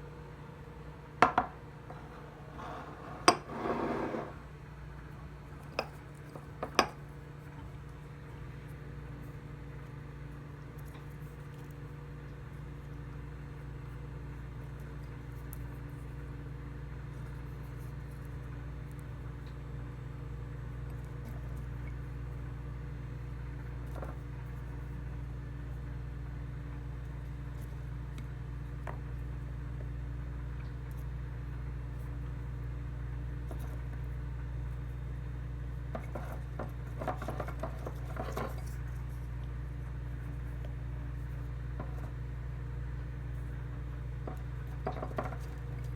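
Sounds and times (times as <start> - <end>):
microwave oven humming: 0.0 - 45.9.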